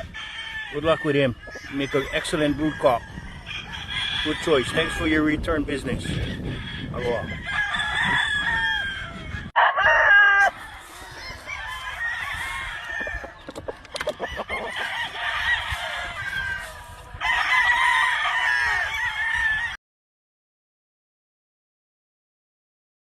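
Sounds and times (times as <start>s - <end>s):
roosters crowing: 0.0s - 19.8s.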